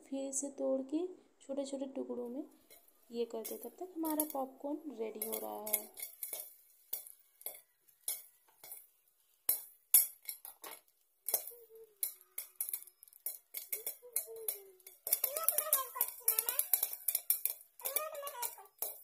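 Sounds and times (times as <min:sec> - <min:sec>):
popcorn popping: 0:02.3 - 0:19.0
kernels clinking against glass lid: 0:02.6 - 0:04.5, 0:05.1 - 0:08.9, 0:09.5 - 0:19.0.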